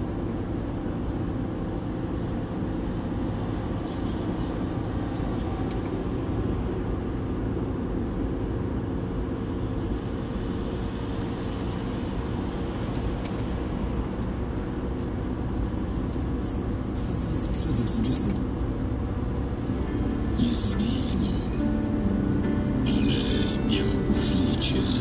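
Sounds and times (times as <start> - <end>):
car cabin road and engine noise: 0.0 - 25.0.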